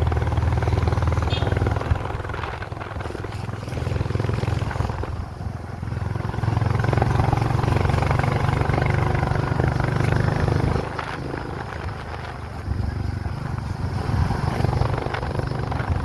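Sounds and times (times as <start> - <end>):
vehicle engine running on road: 0.0 - 16.0.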